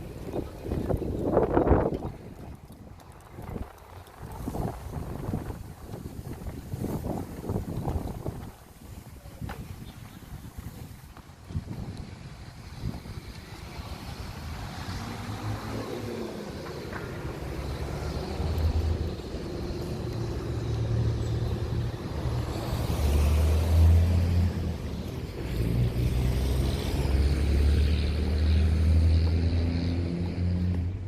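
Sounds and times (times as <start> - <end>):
wind buffeting microphone: 0.0 - 27.3
vehicles passing by: 0.0 - 31.0.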